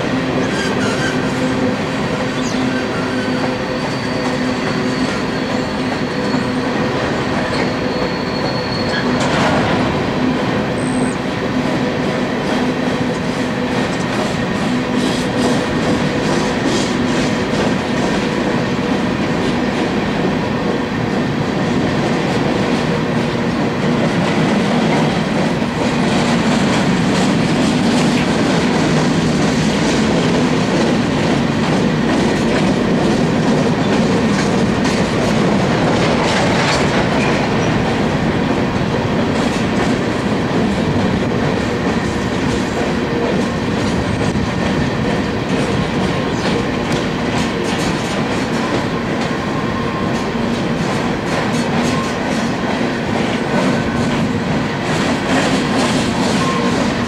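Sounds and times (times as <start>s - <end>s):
freight train wheels clacking: 0.0s - 57.0s.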